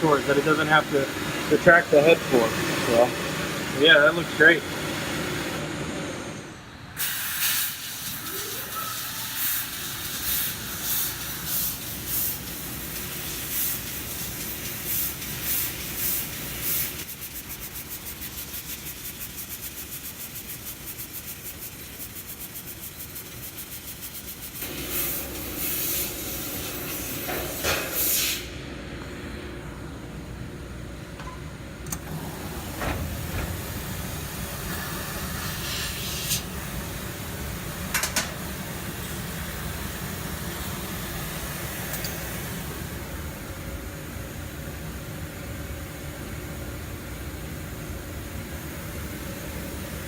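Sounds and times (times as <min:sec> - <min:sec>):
laser cutter gas hissing: 0:00.0 - 0:28.6, 0:32.0 - 0:43.5.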